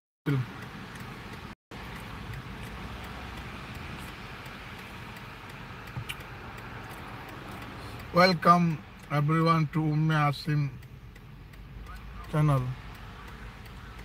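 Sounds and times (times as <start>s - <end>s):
street traffic passing: 0.3s - 14.0s.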